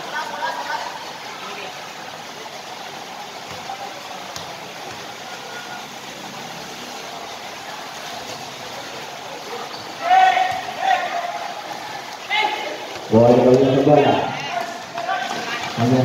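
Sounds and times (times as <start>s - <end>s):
basketball court ambience: 0.0s - 16.0s.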